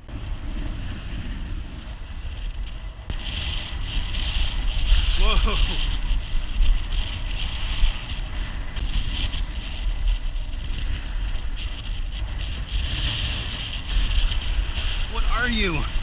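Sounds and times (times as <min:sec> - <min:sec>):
beach surf: 0:00.0 - 0:16.0
wind rumbling on microphone: 0:00.0 - 0:16.0.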